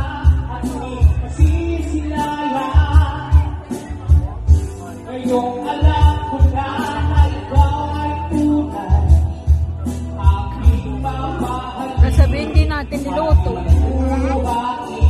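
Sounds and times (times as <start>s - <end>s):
backing track with heavy bass: 0.0s - 15.0s
person singing karaoke: 0.0s - 15.0s.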